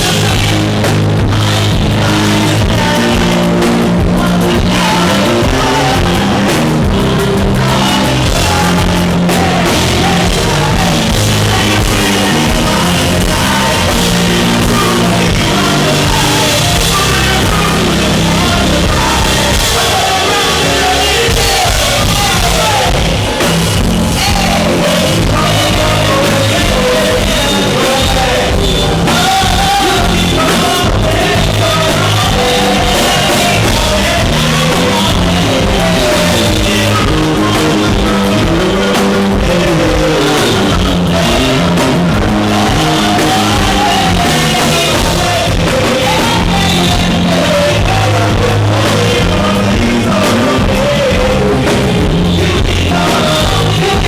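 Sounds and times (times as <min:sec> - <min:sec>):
live band playing loud music: 0:00.0 - 0:54.0
person singing: 0:00.0 - 0:54.0.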